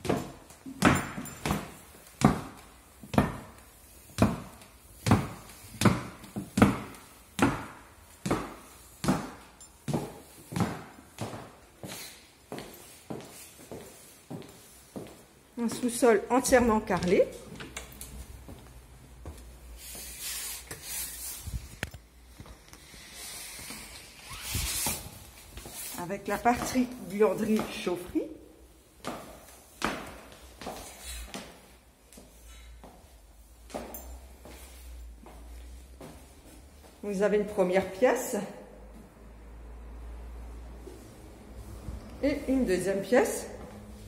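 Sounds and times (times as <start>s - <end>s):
footsteps on tiled stairs: 0.0s - 44.0s.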